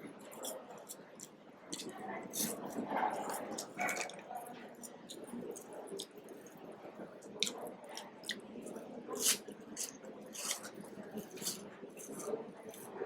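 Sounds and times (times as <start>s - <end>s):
chewing crunchy snacks: 0.0s - 13.0s.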